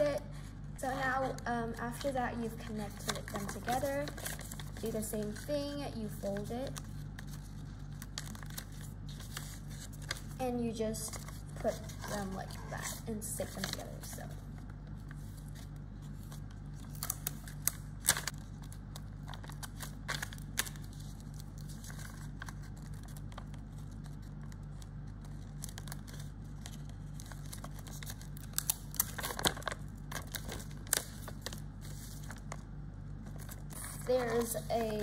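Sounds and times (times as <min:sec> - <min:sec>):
steady low hum: 0:00.0 - 0:35.0
paper and tape crinkling: 0:00.8 - 0:35.0.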